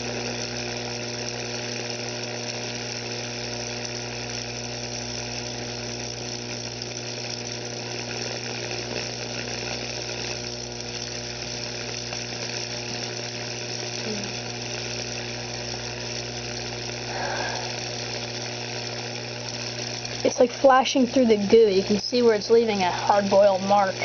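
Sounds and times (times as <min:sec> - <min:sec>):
electrical crackle: 0:00.0 - 0:24.0
high-voltage electrical buzz: 0:00.0 - 0:24.0.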